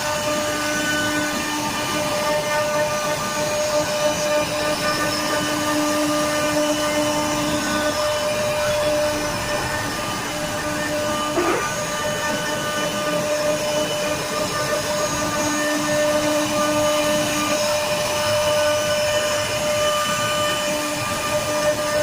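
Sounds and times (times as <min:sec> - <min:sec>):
woodworking machine carving wood: 0:00.0 - 0:22.0.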